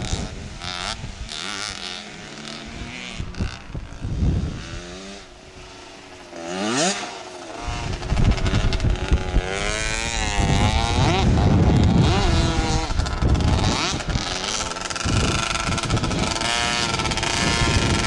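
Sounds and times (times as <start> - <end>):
two-stroke dirt bike engine revving: 0.0 - 18.0.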